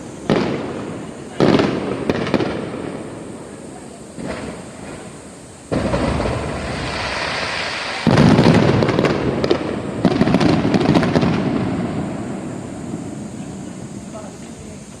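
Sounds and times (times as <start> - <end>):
fireworks bursting: 0.0 - 15.0
fireworks crackling: 0.0 - 15.0.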